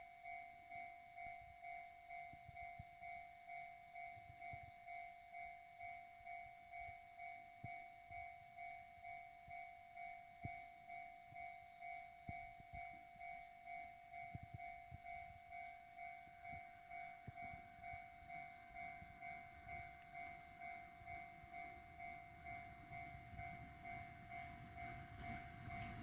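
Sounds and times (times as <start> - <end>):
faint train rumble: 0.0 - 26.0
level-crossing warning bell: 0.0 - 26.0.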